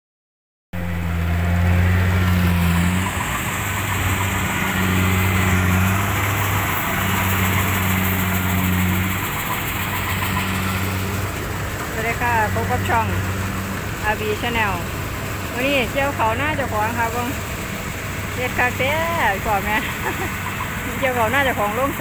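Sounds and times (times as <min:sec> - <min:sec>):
combine harvester diesel engine: 0:00.8 - 0:22.0.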